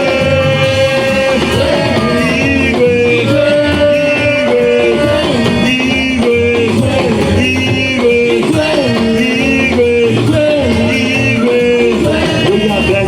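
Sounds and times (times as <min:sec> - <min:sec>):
band playing with steady beat: 0:00.0 - 0:13.0
people singing praise music: 0:00.0 - 0:13.0.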